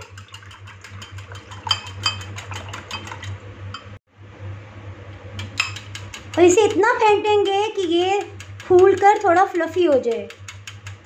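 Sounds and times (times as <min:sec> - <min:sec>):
whisk clinking against glass bowl: 0:00.0 - 0:03.9, 0:05.4 - 0:11.0.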